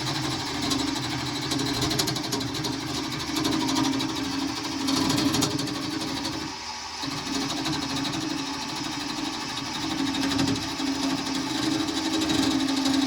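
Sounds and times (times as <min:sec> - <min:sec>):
wood lathe cutting: 0:00.0 - 0:13.0.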